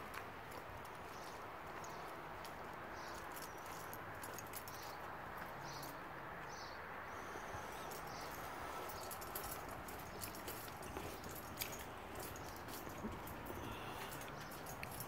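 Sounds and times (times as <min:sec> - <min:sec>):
footsteps scuffing on pavement: 0:00.0 - 0:06.0, 0:07.6 - 0:15.0.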